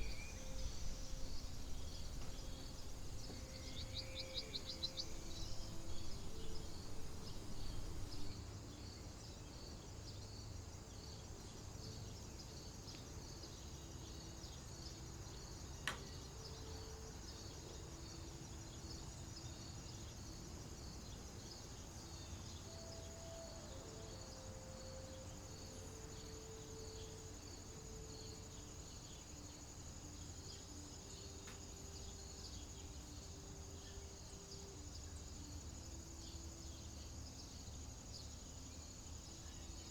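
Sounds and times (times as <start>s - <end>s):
high insect trill: 0.0s - 39.9s
pulsing cricket chirp: 0.0s - 39.9s.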